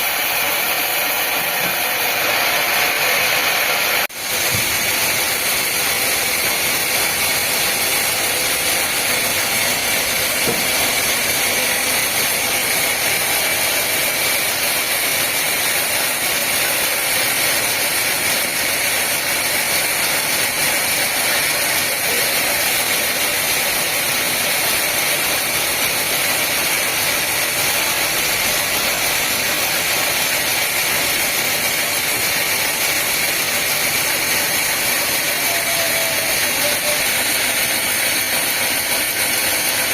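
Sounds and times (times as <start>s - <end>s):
woodworking machinery running: 0.0s - 39.9s.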